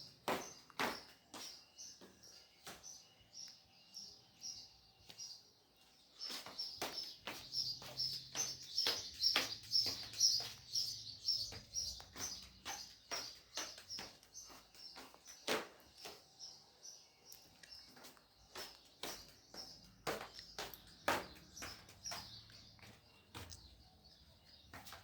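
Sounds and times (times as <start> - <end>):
small bird chirping: 0.0 - 25.0.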